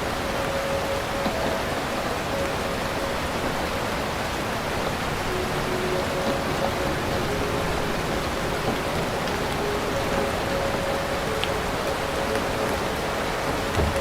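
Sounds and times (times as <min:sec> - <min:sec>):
steady heavy rain: 0:00.0 - 0:14.0.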